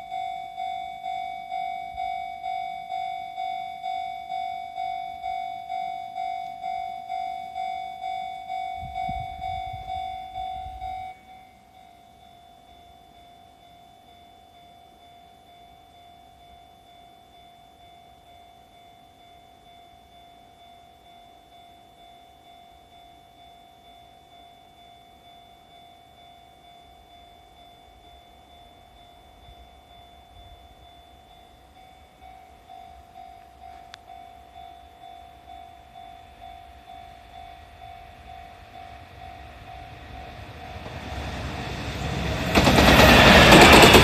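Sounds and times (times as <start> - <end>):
level-crossing warning bell ringing: 0.0 - 44.0.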